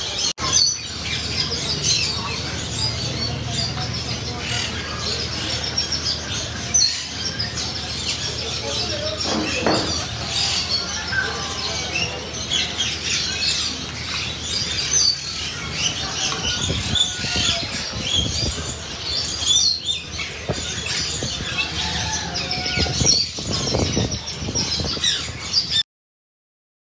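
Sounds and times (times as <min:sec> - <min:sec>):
parrots chirping and chattering: 0:00.0 - 0:25.8.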